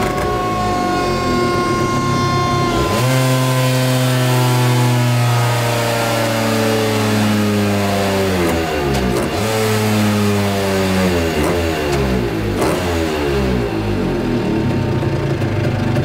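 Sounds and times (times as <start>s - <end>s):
two-stroke scooter engine revving: 0.0s - 16.0s.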